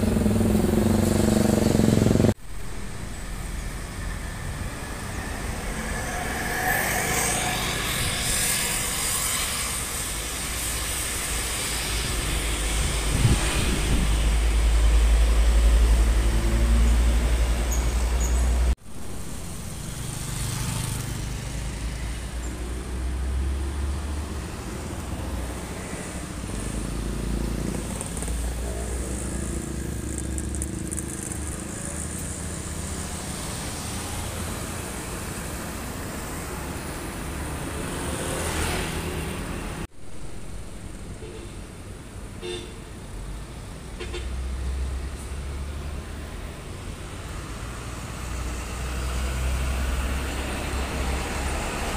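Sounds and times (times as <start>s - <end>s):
highway traffic: 0.0s - 51.9s.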